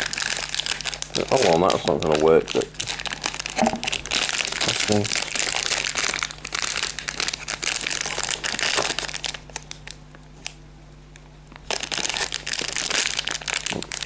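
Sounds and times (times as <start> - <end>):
plastic packaging crinkling: 0.0 - 10.6, 11.5 - 14.0.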